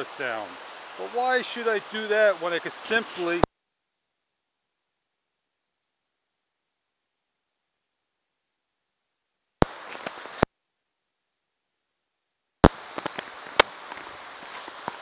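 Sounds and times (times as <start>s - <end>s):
outdoor ambient hiss: 0.0s - 15.0s.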